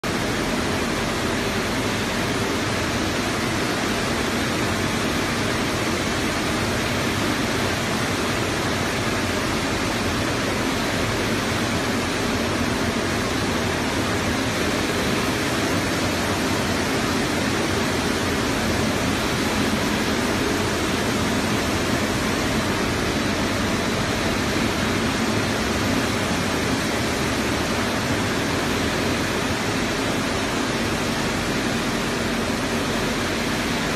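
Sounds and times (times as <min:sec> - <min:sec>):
printing machine running: 0:00.1 - 0:33.9.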